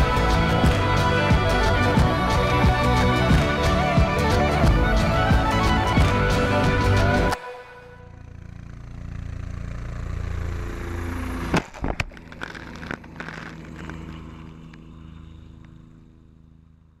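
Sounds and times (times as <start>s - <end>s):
helicopter rotor beating: 0.0s - 7.4s, 8.1s - 17.0s.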